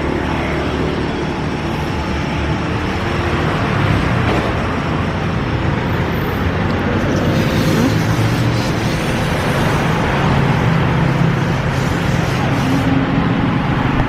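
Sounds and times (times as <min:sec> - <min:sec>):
traffic rushing past: 0:00.0 - 0:14.0.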